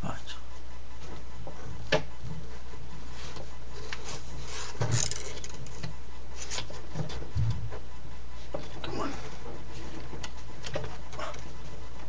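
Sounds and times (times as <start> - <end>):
steady low hum: 0.0 - 12.0
objects rubbing and knocking: 1.0 - 11.9.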